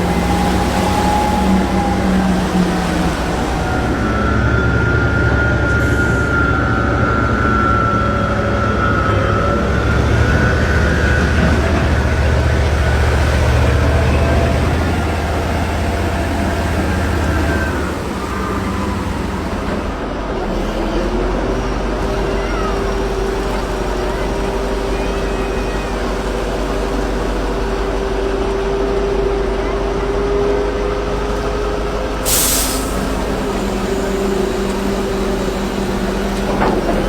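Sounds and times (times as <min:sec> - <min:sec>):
heavy engine droning with whine: 0:00.0 - 0:37.0.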